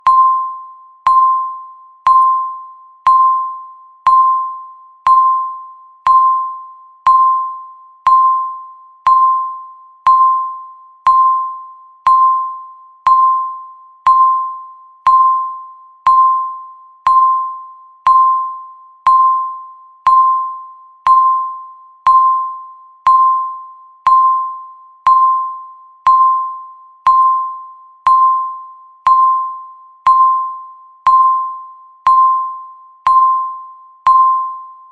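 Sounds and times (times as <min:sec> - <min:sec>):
timer beeping: 0:00.0 - 0:34.9.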